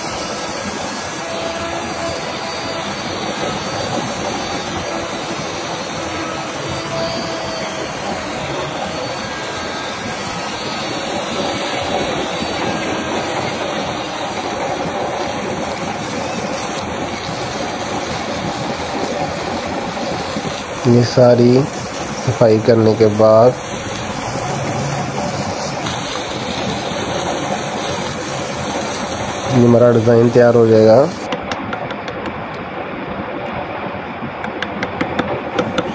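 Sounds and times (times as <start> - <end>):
electric wood router running: 0.0 - 31.4.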